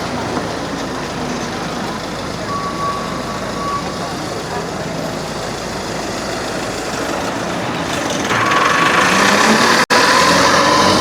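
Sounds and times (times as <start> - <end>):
large vehicle engine running: 0.0 - 11.0
street traffic: 0.0 - 11.0.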